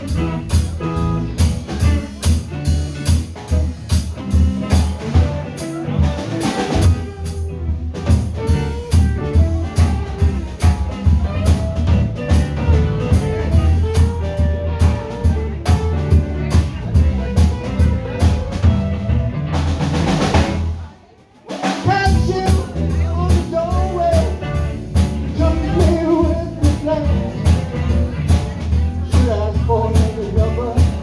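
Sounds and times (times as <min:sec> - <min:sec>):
drum kit beat: 0:00.0 - 0:31.0
live band playing upbeat song: 0:00.0 - 0:31.0.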